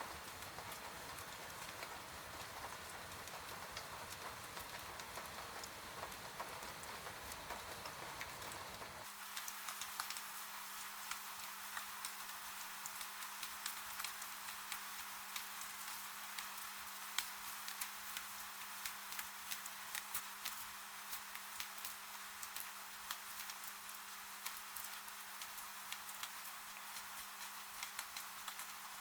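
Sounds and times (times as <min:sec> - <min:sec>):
rain falling: 0:00.0 - 0:29.0
raindrops pattering on a surface: 0:00.0 - 0:29.0.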